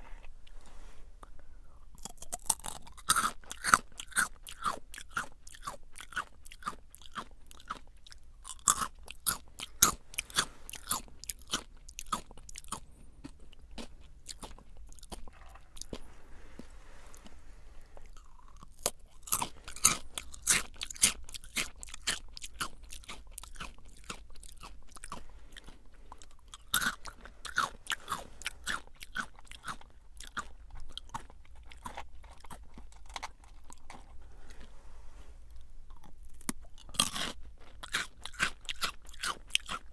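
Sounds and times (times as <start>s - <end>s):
crunchy snack being chewed: 1.9s - 34.8s, 35.4s - 39.9s.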